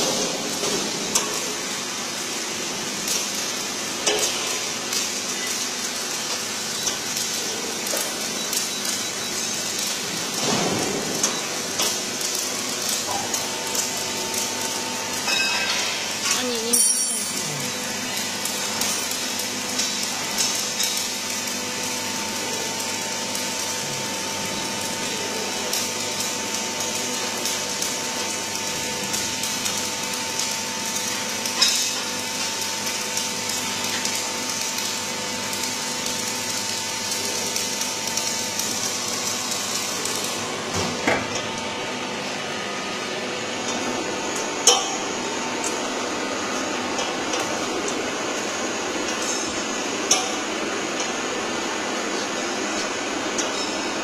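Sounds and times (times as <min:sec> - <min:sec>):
machinery humming and whining: 0:00.0 - 0:54.0.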